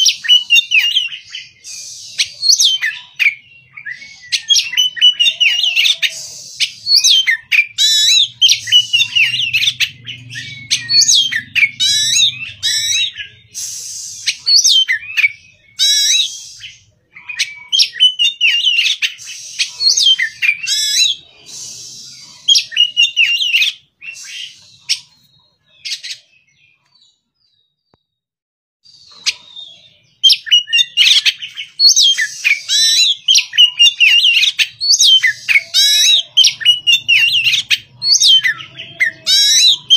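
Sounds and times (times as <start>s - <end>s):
bird singing whistles and chatter: 0.0s - 26.6s, 28.9s - 39.9s.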